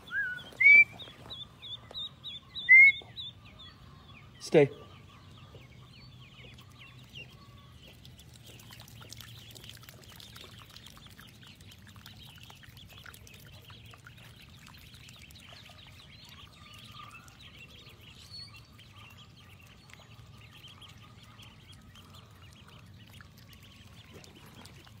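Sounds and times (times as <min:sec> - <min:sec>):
ducklings peeping: 0:00.0 - 0:25.0.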